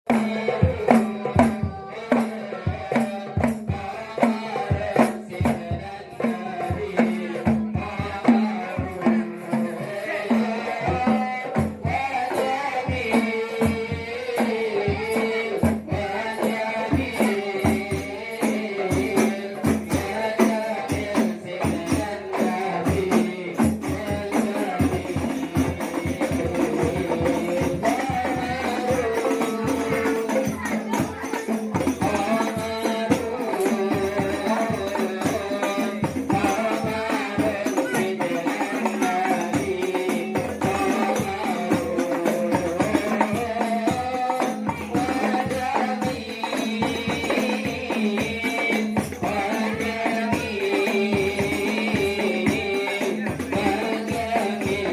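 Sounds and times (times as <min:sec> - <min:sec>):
frame drums beating: 0:00.1 - 0:54.9
jingling percussion: 0:00.1 - 0:54.9.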